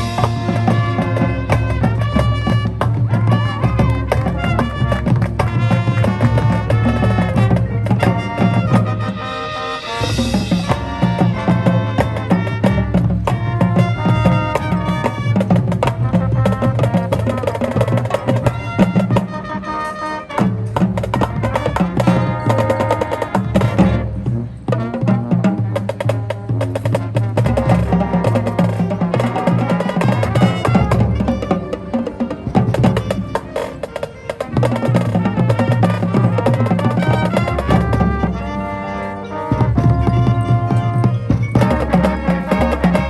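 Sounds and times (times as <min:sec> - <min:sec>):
brass and woodwinds chords: 0:00.0 - 0:43.0
drumline percussion hits: 0:00.0 - 0:43.0.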